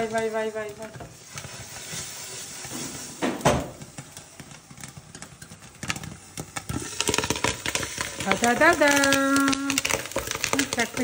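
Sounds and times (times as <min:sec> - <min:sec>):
popcorn popping in a pan: 0:00.0 - 0:11.0.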